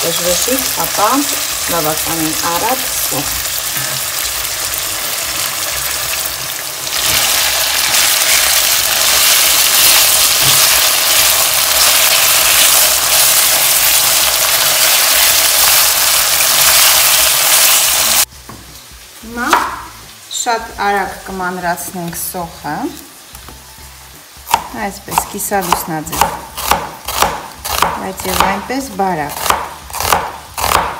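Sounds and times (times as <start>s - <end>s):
meat frying in hot oil: 0.0s - 27.6s.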